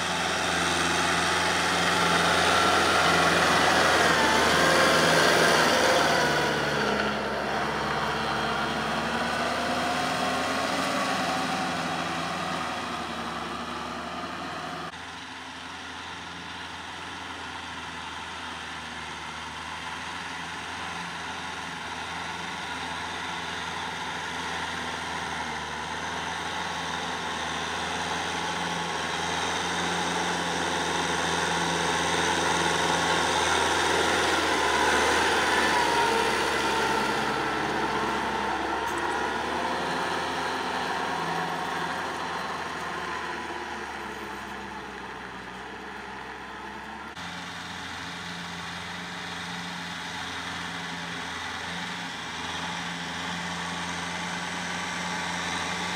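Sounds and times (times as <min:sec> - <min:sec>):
rotary tiller through soil: 0:00.0 - 0:55.9
tractor diesel engine running: 0:00.0 - 0:55.9.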